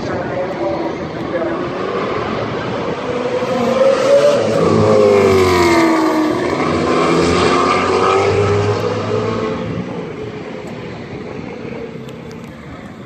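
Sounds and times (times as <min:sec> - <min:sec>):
race car engine revving: 0:00.0 - 0:12.2.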